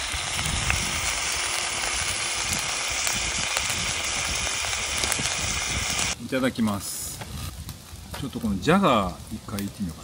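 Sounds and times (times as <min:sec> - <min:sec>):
roast sizzling with crackles: 0:00.0 - 0:10.0.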